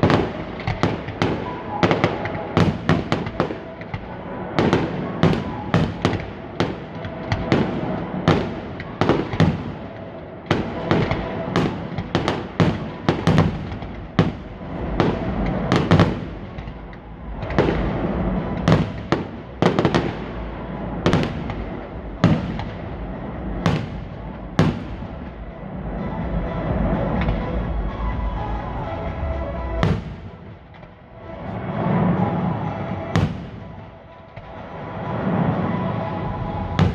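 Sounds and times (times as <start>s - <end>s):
background rumble: 0.0s - 36.9s
fireworks bangs: 0.0s - 36.9s.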